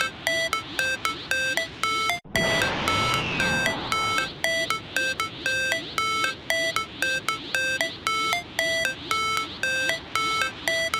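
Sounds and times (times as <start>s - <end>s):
bright electronic melody: 0.0s - 10.9s.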